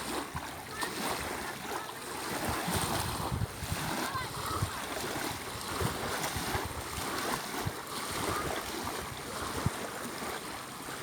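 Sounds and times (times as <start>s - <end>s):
sea waves washing on shore: 0.0s - 11.0s
wind buffeting microphone: 0.0s - 11.0s.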